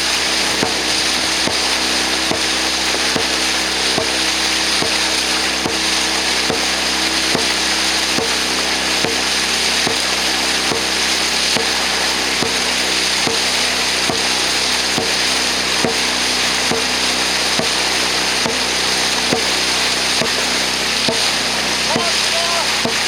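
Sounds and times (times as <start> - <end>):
rushing water and wind: 0.0 - 23.0
sharp rhythmic knocks: 0.0 - 23.0.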